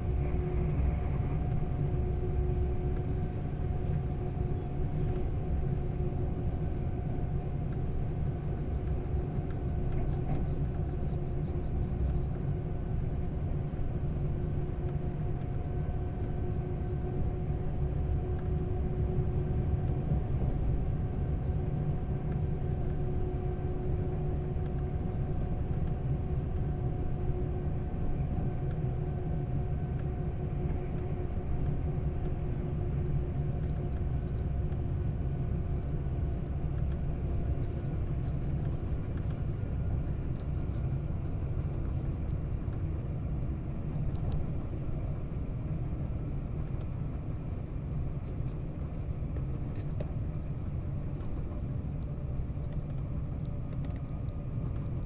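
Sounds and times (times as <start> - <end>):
faint whining tones: 0.0 - 55.0.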